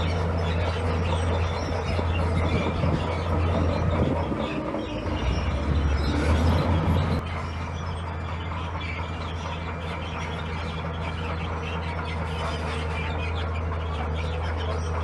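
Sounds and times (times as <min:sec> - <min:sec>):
diesel engine of earthmoving machine: 0:00.0 - 0:15.0.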